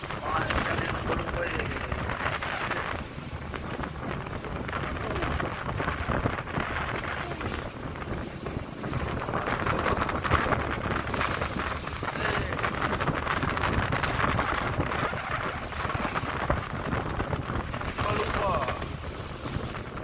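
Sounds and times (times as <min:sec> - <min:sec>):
water rushing along ship hull: 0:00.0 - 0:20.0
wind buffeting microphone: 0:00.0 - 0:20.0.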